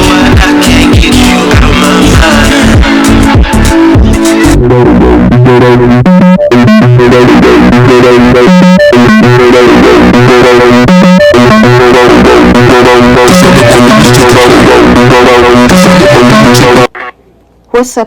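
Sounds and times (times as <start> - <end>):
instrumental music with beat: 0.0 - 16.9.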